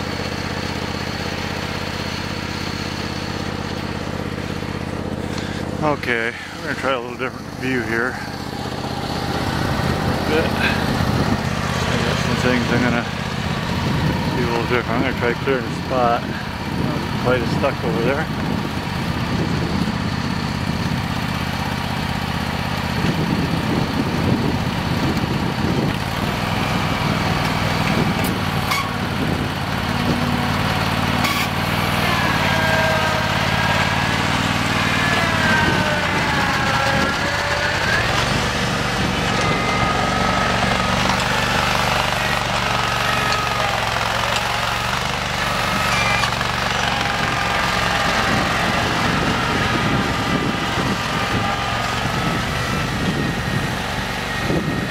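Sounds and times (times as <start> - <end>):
garden tractor running: 0.0 - 54.9
tractor whine: 0.0 - 54.9.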